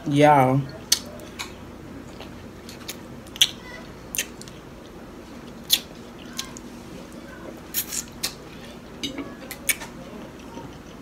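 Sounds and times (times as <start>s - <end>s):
person chewing: 0.7s - 6.7s, 7.4s - 11.0s.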